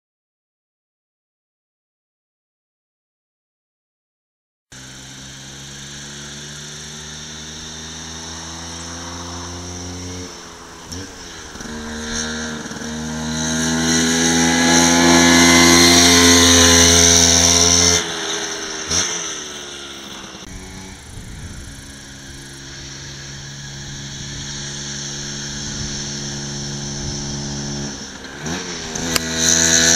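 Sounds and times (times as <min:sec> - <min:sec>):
scooter engine revving: 0:04.7 - 0:29.9.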